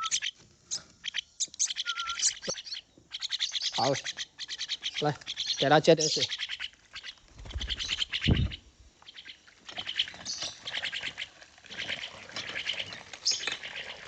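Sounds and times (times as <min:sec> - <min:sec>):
bird calls: 0:00.0 - 0:14.0
birds fluttering splashes: 0:00.0 - 0:14.0.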